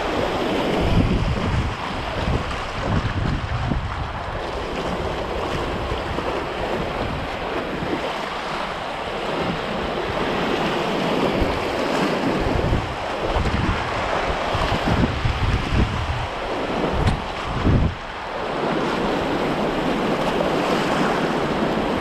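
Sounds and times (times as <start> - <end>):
river water rushing: 0.0 - 22.0
wind buffeting microphone: 0.0 - 22.0.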